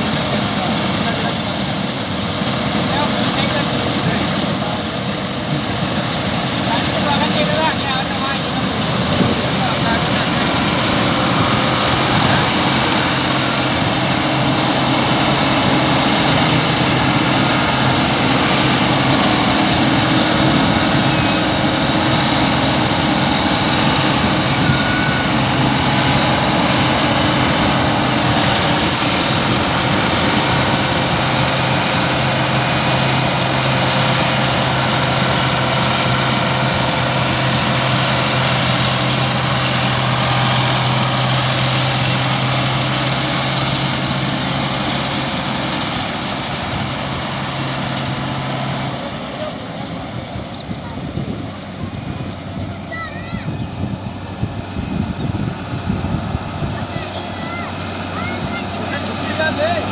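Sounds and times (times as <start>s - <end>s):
heavy machinery engine running: 0.0s - 59.9s.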